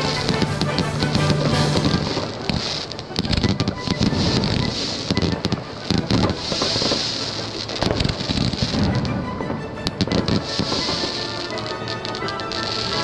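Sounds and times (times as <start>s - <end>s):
fireworks bangs and crackling: 0.0s - 13.0s
fireworks hissing rush: 0.0s - 13.0s
music: 0.0s - 13.0s.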